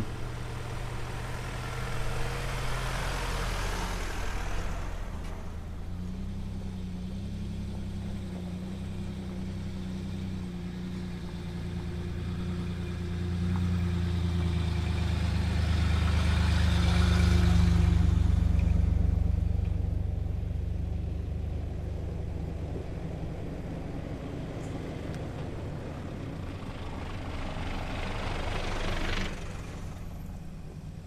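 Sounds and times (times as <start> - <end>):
diesel engine running at low speed: 0.0 - 31.0.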